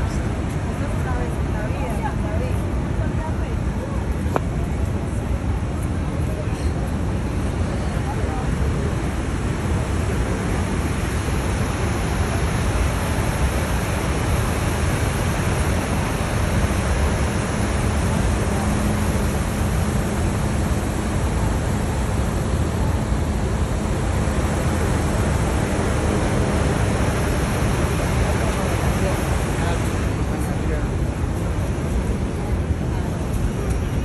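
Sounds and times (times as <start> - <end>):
waterfall rushing: 5.4 - 33.4.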